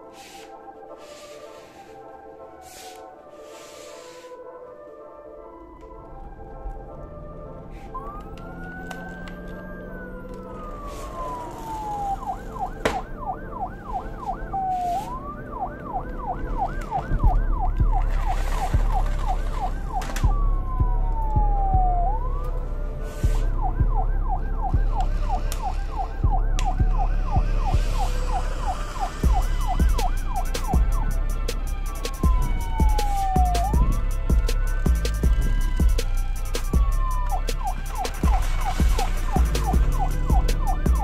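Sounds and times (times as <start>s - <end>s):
emergency vehicle siren: 0.0s - 41.0s.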